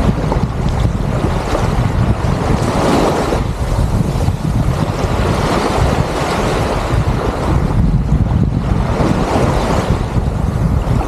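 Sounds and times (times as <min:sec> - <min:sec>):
sea waves breaking on shore: 0:00.0 - 0:11.0
wind buffeting microphone: 0:00.0 - 0:11.0.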